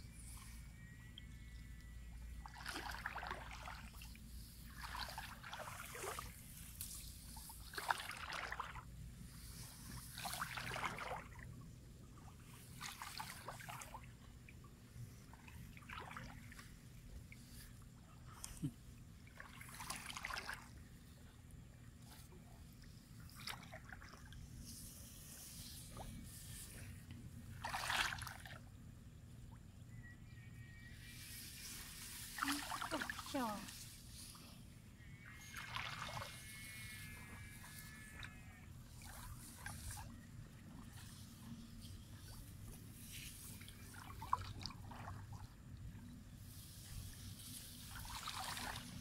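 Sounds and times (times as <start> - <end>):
shallow water sloshing: 0.0 - 29.8, 31.3 - 49.0.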